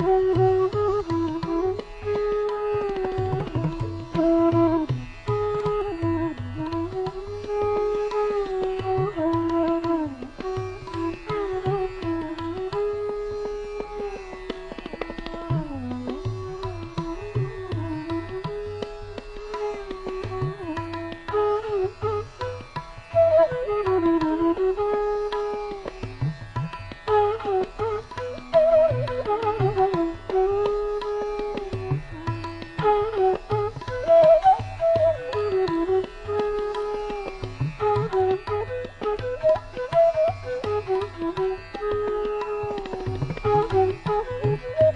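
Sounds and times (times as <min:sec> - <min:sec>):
indian classical melody: 0:00.0 - 0:44.9
tabla drumming: 0:00.0 - 0:44.9.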